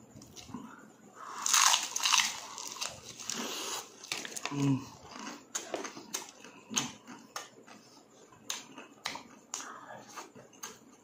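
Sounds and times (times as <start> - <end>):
chewing and crunching food: 1.3 - 11.0.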